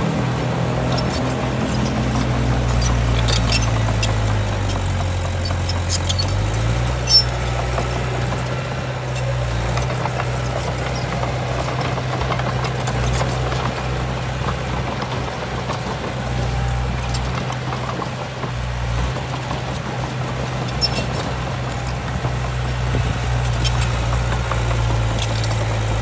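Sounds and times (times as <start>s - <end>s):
construction machine diesel engine: 0.0s - 26.0s.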